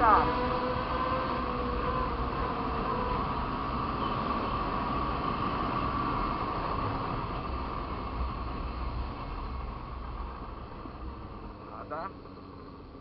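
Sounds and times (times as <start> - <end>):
motorcycle engine at speed: 0.0 - 13.0.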